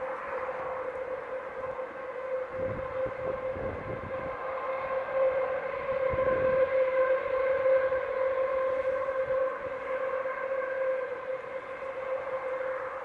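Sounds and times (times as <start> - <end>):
droning tone from the sky: 0.0 - 13.0.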